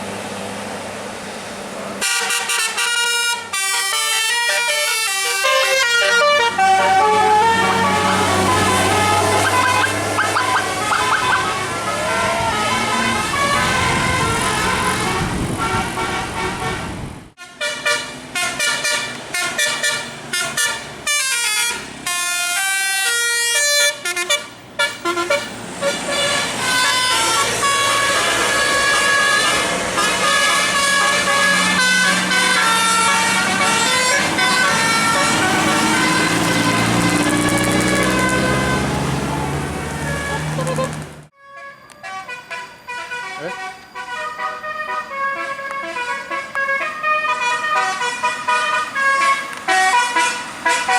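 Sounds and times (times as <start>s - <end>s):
multi-tone bus air horn tune: 2.0s - 39.2s, 39.9s - 50.9s.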